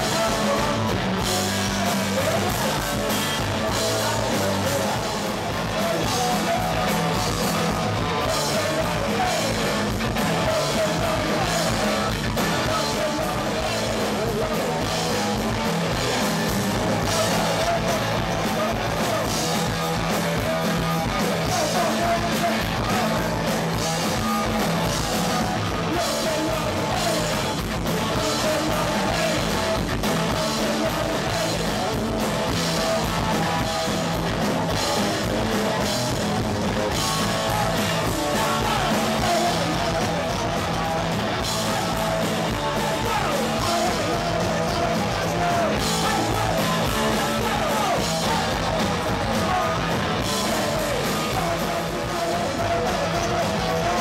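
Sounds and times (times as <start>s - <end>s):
person singing: 0.0s - 54.0s
punk rock band playing live: 0.0s - 54.0s.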